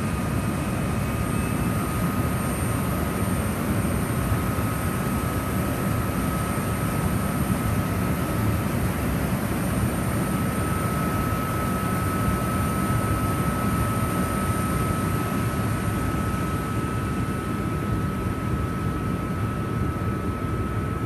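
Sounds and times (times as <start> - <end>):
cooling blowers rushing air: 0.0 - 21.0
thin constant whine: 0.0 - 21.0.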